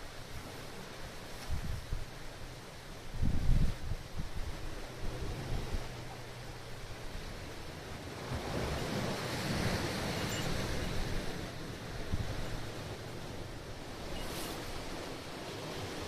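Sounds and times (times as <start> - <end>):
waves washing onto rocky shore: 0.0 - 16.0
wind rumbling on microphone: 0.0 - 16.0.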